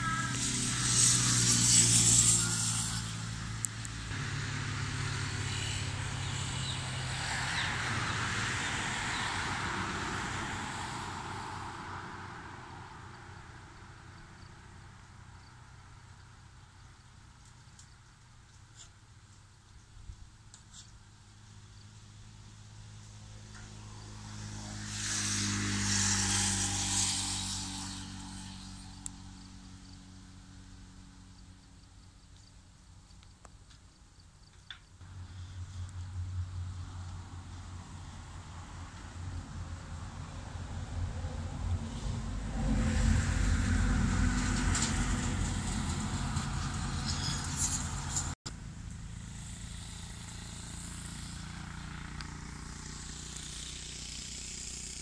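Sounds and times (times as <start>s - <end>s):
vehicle passing: 0.0s - 15.3s, 22.5s - 31.6s, 35.0s - 55.0s.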